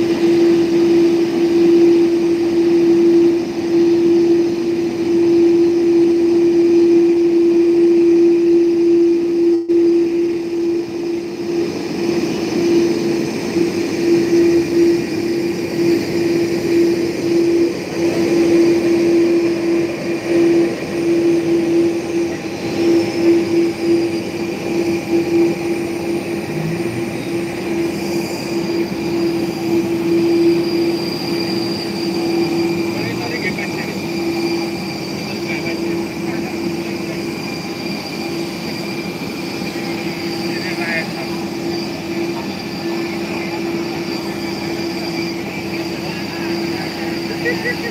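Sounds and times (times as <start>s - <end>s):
jet engines idling: 0.0s - 47.9s.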